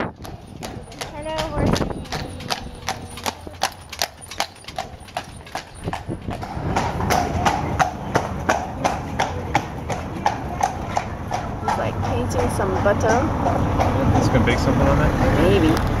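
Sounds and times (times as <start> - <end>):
horse hooves clip-clopping on cobblestones: 0.0 - 16.0.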